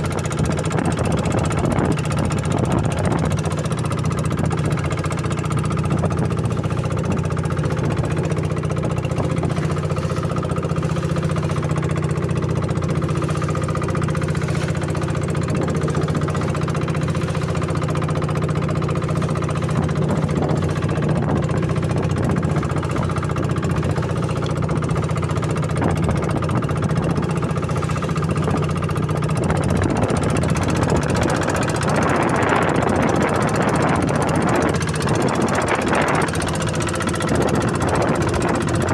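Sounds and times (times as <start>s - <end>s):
boat engine droning: 0.0s - 38.9s.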